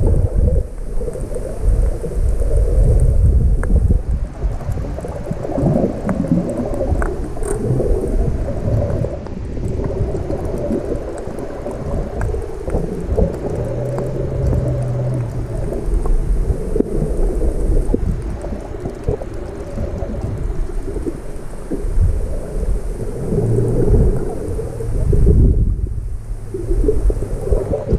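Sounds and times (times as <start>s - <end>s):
underwater surge sloshing: 0.0s - 27.9s
faint underwater clicks: 0.3s - 27.9s.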